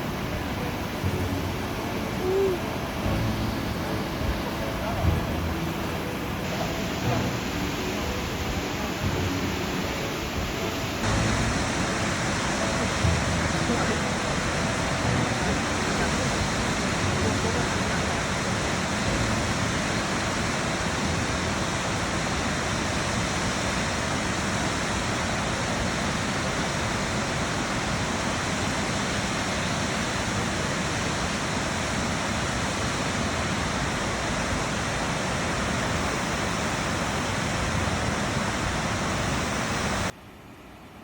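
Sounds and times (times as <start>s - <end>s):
waterfall rushing: 0.0s - 40.2s.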